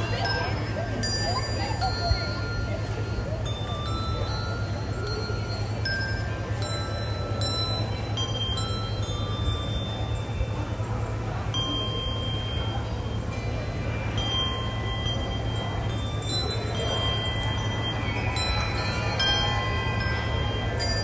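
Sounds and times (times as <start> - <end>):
handbells ringing: 0.0 - 21.0.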